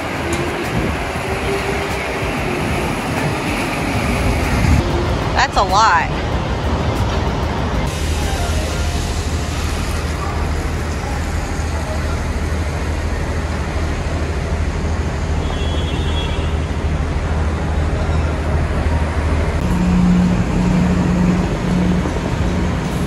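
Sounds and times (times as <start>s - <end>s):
road vehicle rumble: 0.0s - 23.0s.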